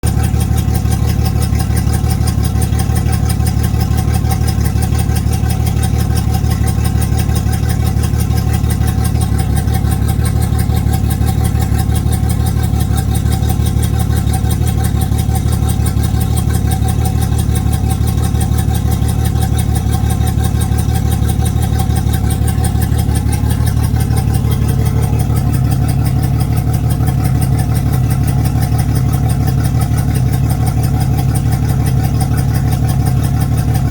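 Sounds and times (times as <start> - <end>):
outboard motor idling roughly: 0.0 - 33.9.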